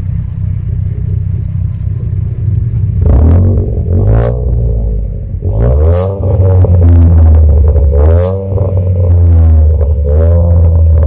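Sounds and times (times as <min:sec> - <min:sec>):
car engine idling and revving: 0:00.0 - 0:11.0
exhaust crack: 0:00.0 - 0:11.0.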